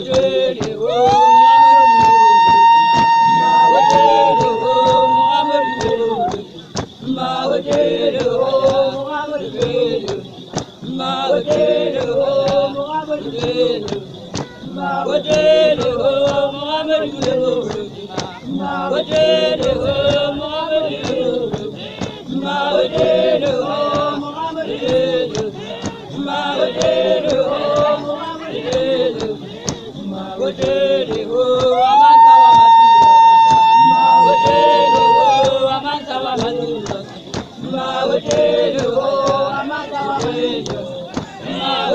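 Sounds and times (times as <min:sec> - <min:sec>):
women singing and chanting: 0:00.0 - 0:41.9
sharp rhythmic beats: 0:01.9 - 0:31.8, 0:34.4 - 0:41.9.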